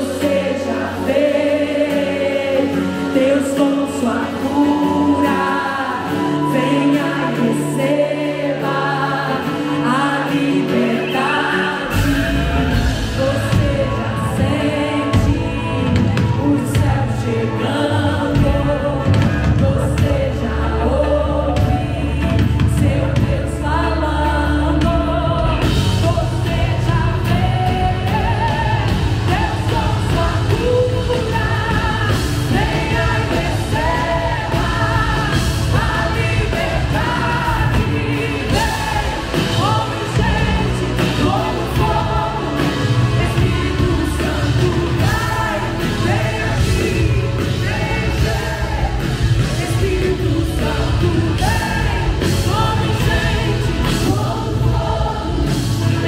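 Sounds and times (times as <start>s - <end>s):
congregation singing along: 0.0s - 56.0s
drums: 0.0s - 56.0s
electric and acoustic guitars: 0.0s - 56.0s
woman singing lead: 0.0s - 56.0s.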